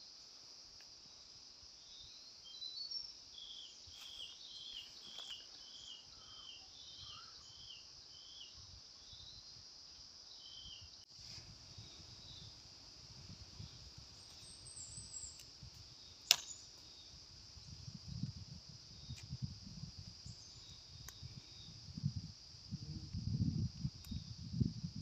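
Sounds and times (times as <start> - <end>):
high-pitched insect drone: 1.8 - 25.0.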